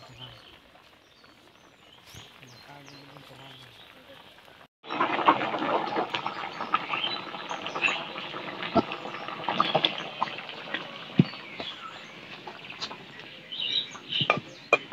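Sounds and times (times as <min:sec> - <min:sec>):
fire crackling hiss: 0:00.0 - 0:14.8.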